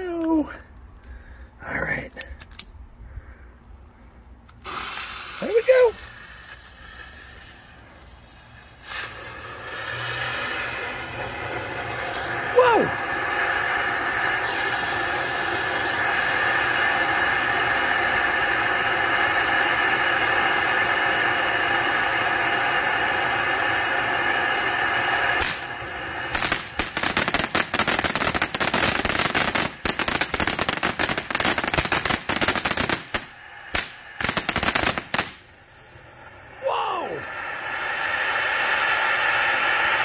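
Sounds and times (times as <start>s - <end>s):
firework fountain hissing: 4.3s - 40.0s
firework crackling: 4.4s - 40.0s.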